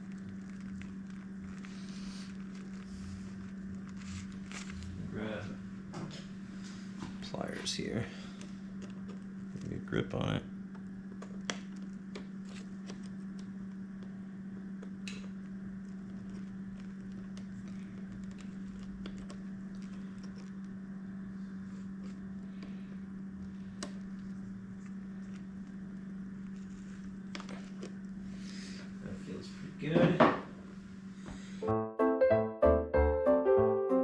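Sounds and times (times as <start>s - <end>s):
low electrical hum: 0.0s - 31.6s.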